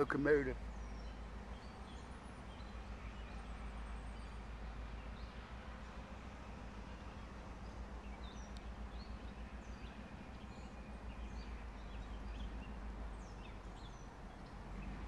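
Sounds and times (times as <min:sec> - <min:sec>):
diesel locomotive rumble: 0:00.0 - 0:15.0
songbirds chirping: 0:00.0 - 0:15.0.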